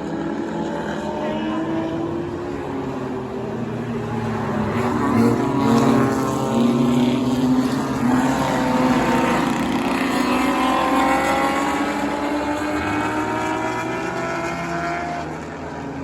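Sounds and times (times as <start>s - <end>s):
race car engines accelerating: 0.0s - 16.0s.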